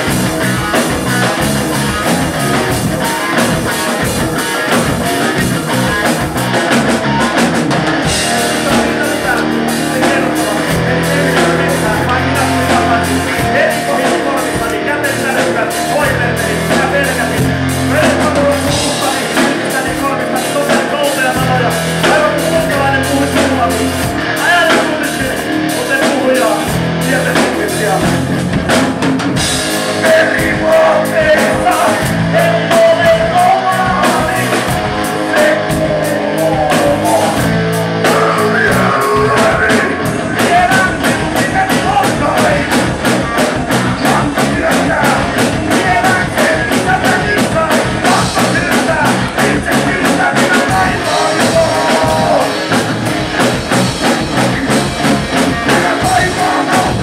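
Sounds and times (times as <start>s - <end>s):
bass guitar: 0.0s - 57.0s
distorted electric guitars: 0.0s - 57.0s
drum kit: 0.0s - 57.0s
man singing: 8.0s - 28.8s, 29.4s - 57.0s.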